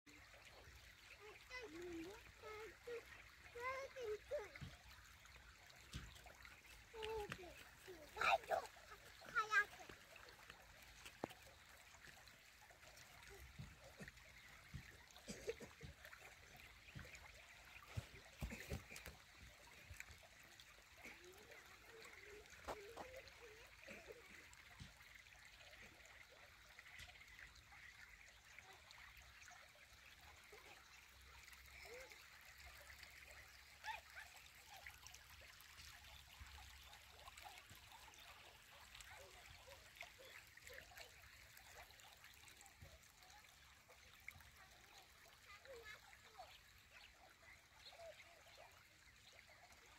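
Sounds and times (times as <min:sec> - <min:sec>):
water trickling in a ditch: 0:00.1 - 0:49.9.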